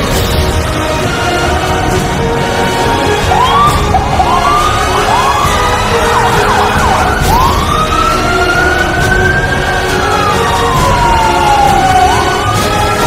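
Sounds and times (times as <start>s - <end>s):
fire truck siren: 0.0s - 13.0s.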